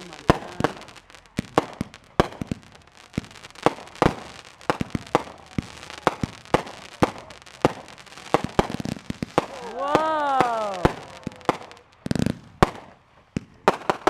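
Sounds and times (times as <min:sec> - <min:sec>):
fireworks bangs with echo: 0:00.0 - 0:14.0.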